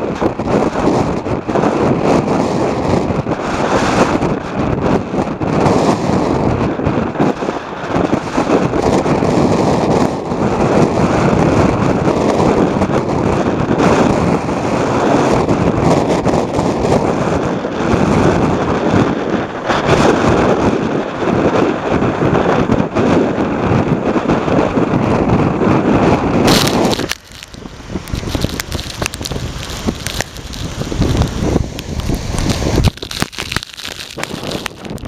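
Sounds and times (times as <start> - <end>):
storm surf crashing: 0.0 - 35.0
wind buffeting microphone: 0.0 - 35.0.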